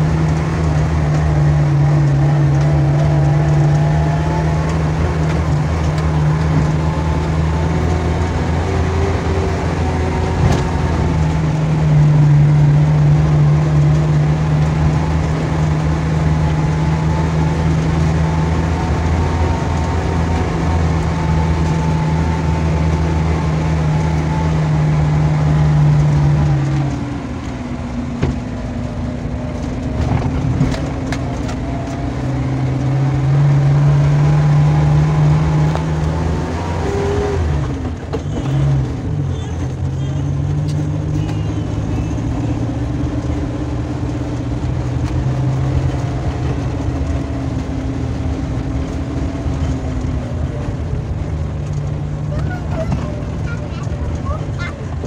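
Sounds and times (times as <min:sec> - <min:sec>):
van engine running: 0:00.0 - 0:55.0.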